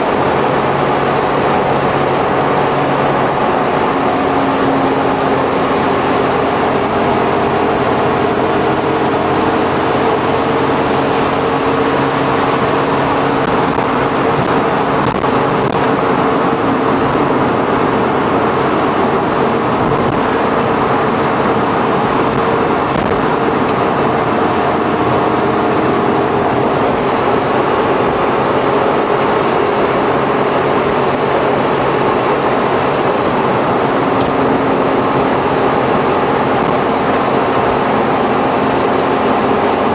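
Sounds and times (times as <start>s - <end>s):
tyre and road noise: 0.0s - 39.9s
van engine droning: 0.0s - 39.9s.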